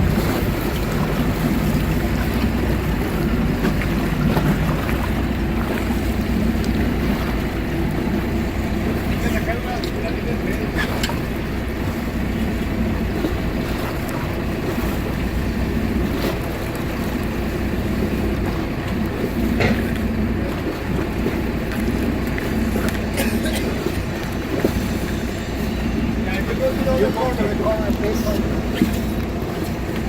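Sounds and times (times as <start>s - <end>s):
boat engine running: 0.0s - 30.0s
water noise: 0.0s - 30.0s
wind: 0.0s - 30.0s.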